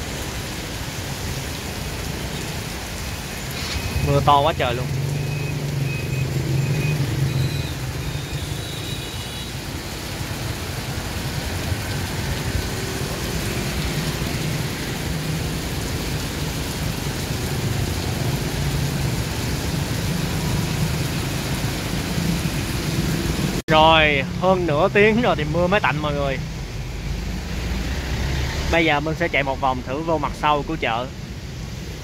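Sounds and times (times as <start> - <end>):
heavy rain falling: 0.0 - 32.0
road traffic hum: 0.0 - 32.0.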